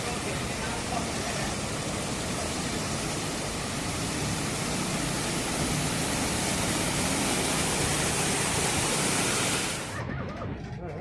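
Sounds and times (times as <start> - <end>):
running water: 0.0 - 10.0
heavy rain pouring: 0.0 - 10.1.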